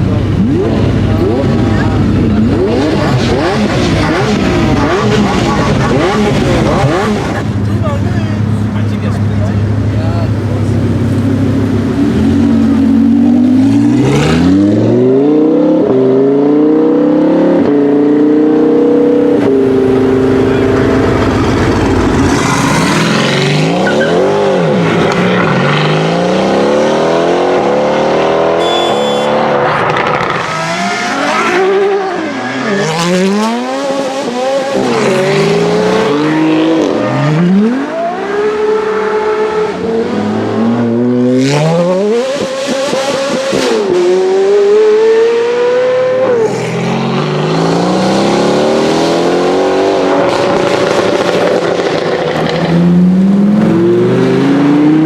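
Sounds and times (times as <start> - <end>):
car engine accelerating and revving: 0.0 - 55.0.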